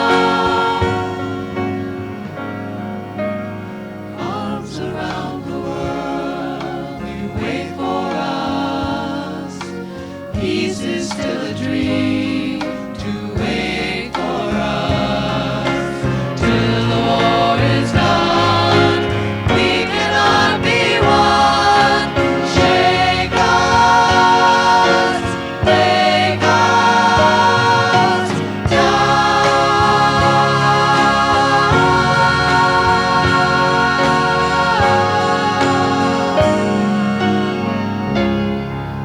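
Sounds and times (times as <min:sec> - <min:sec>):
group of voices singing: 0:00.0 - 0:02.4, 0:04.1 - 0:38.4.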